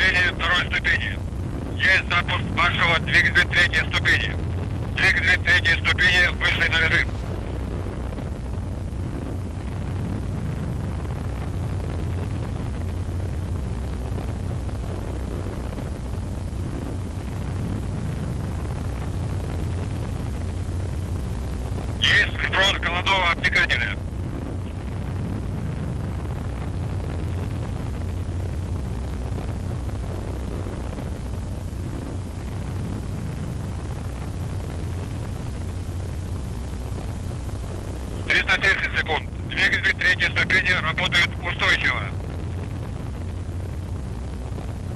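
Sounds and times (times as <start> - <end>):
rocket engine rumble: 0.0 - 44.9.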